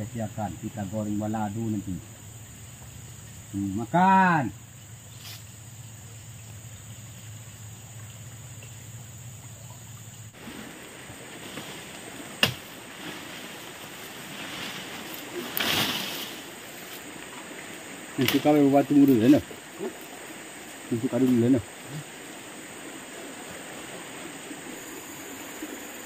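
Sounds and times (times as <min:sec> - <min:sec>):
river water flowing: 0:04.6 - 0:26.0.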